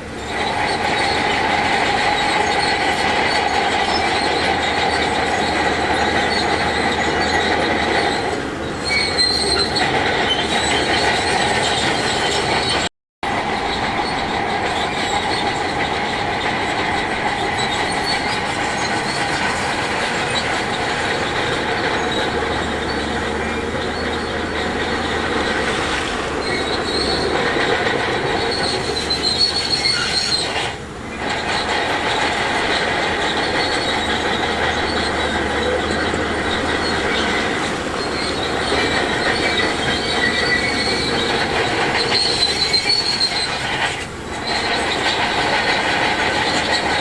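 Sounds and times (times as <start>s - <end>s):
bulldozer tracks squealing and clanking: 0.0s - 47.0s.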